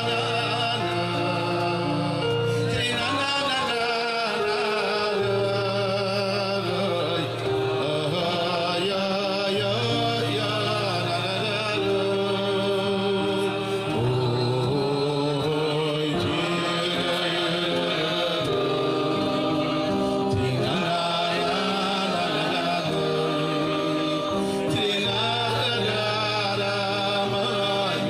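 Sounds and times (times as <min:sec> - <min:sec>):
men singing together: 0:00.0 - 0:28.0
musical backing: 0:00.0 - 0:28.0.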